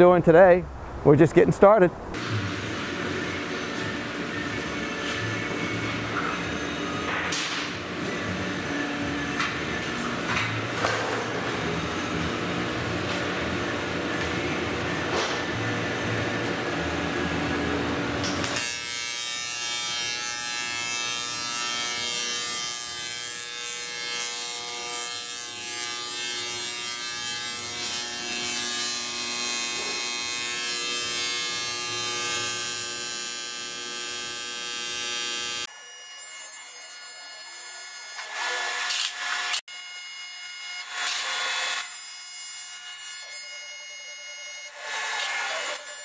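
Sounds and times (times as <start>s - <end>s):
rushing shop noise: 2.1s - 46.0s
welding arc buzzing: 2.1s - 46.0s.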